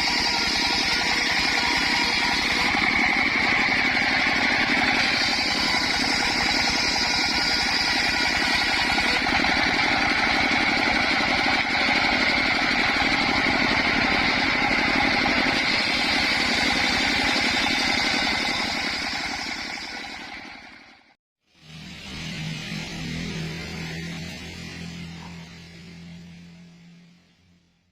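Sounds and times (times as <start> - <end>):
circular saw engine running: 0.0 - 27.5.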